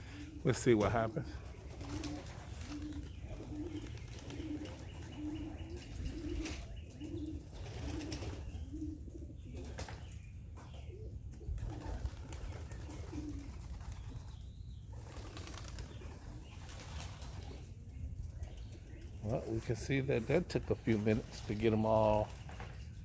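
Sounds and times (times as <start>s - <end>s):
pigeons cooing: 0.0s - 23.0s
wings flapping: 0.1s - 8.5s, 11.6s - 17.7s, 18.5s - 23.0s.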